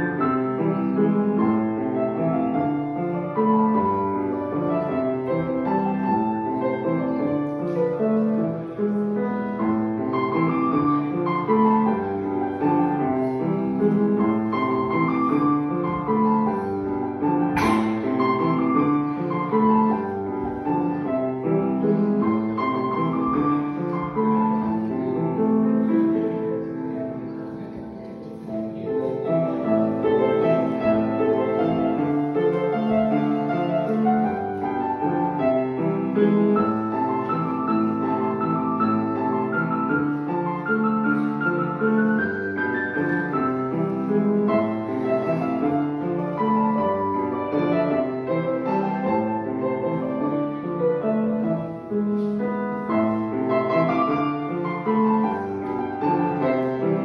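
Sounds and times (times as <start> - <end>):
piano piece: 0.0 - 57.0.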